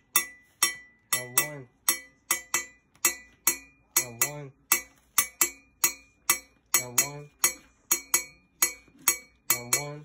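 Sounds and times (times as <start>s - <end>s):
metal rod striking hoe blade: 0.0s - 10.0s.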